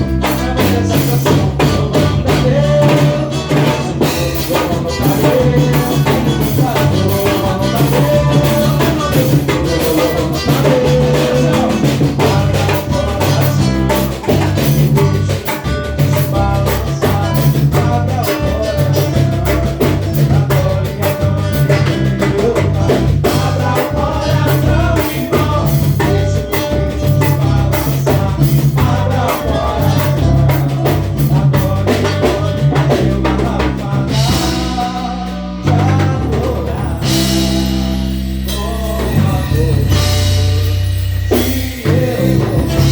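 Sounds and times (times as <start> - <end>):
loud drum-driven music: 0.0 - 42.9.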